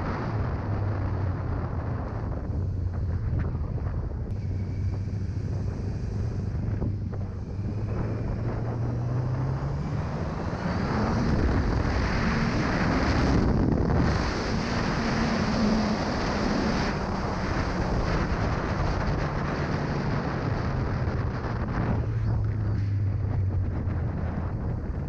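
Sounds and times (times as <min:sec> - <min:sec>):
motorcycle engine: 0:00.0 - 0:25.0
wind noise on microphone: 0:00.0 - 0:25.0.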